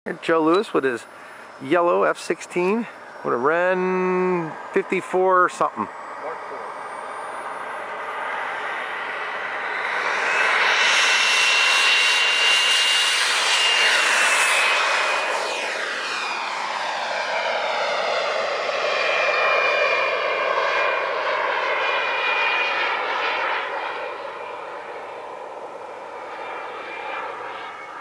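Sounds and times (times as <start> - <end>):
model jet turbine whine: 0.1 - 28.0.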